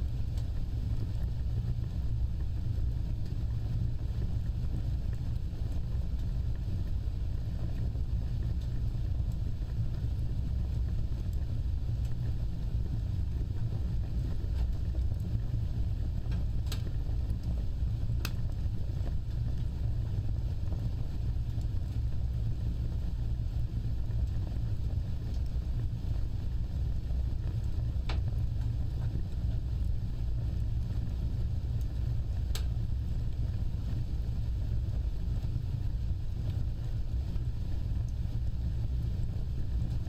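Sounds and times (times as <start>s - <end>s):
fire flames rumbling: 0.0s - 40.0s
sharp fire crackles: 0.0s - 40.0s.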